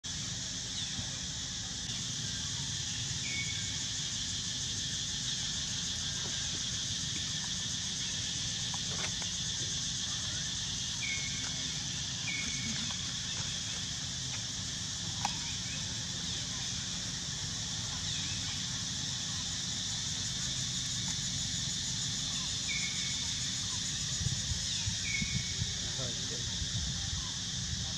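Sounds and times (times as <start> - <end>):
insects droning: 0.0 - 27.9.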